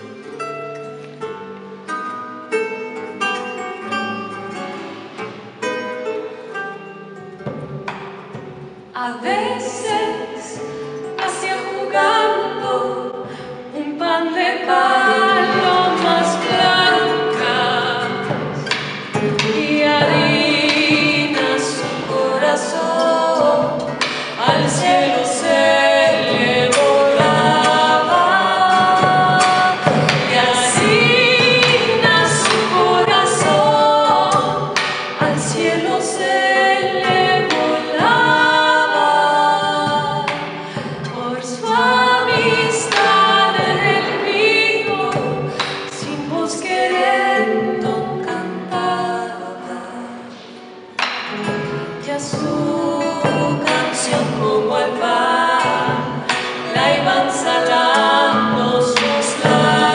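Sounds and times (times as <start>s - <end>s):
plucked classical guitar: 0.0s - 59.9s
woman singing with vibrato: 8.8s - 59.9s.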